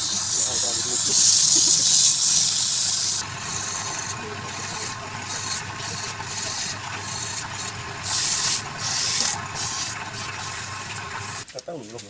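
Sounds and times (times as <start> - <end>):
wood lathe droning: 0.0 - 11.4
tool hissing on spinning wood: 0.0 - 11.5.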